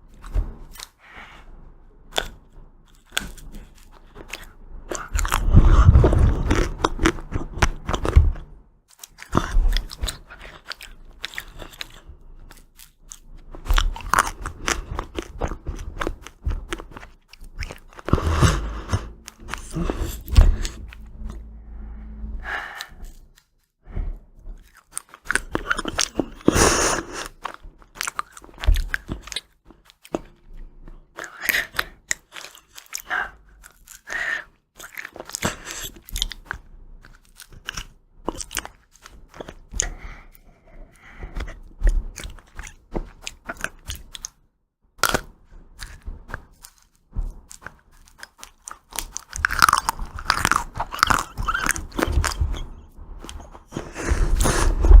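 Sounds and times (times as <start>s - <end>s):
person crunching and chewing ice cream: 0.0s - 21.6s, 22.6s - 44.4s, 45.0s - 55.0s.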